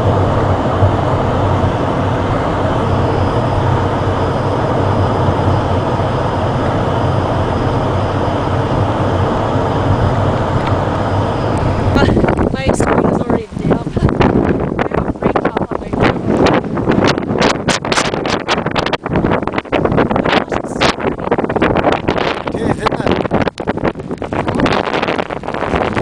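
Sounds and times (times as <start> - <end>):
constant low hum: 0.0 - 26.0
vehicle engine drone: 0.0 - 26.0.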